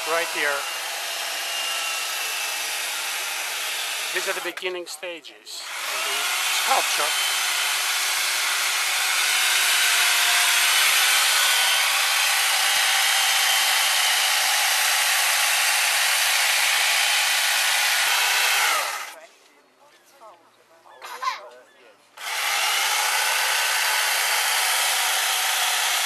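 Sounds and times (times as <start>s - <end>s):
electric chainsaw cutting ice: 0.0s - 4.6s, 5.6s - 19.2s, 22.2s - 26.0s.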